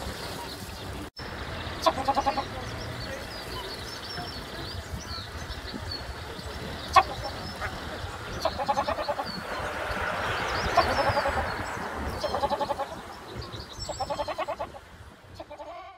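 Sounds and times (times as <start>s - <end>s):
small birds chirping: 0.2s - 15.9s.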